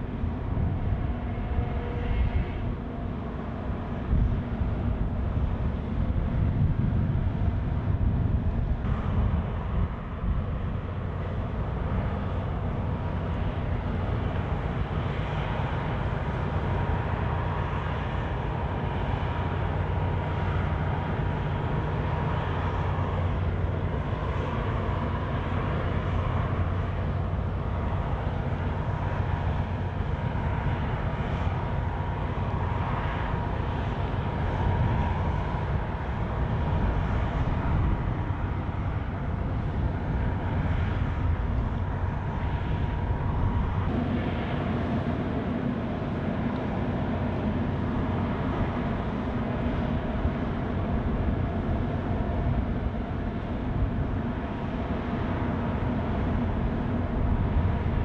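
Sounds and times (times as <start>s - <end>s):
faint steady whine: 0.0s - 58.0s
low drone of ship engines: 0.0s - 58.0s.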